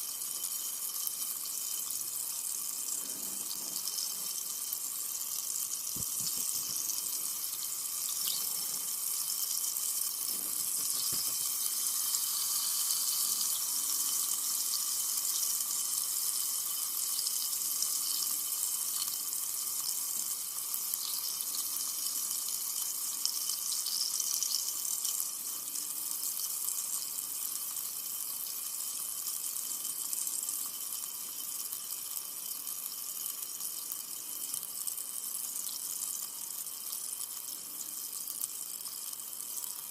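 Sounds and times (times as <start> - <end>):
soda fizzing: 0.0 - 39.9.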